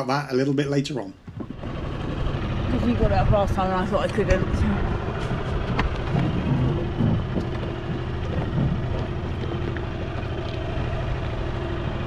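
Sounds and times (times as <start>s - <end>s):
outboard motor running: 1.2s - 12.0s.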